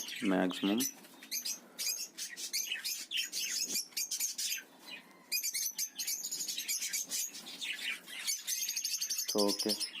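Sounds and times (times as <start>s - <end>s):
small parrots chirping: 0.0s - 10.0s.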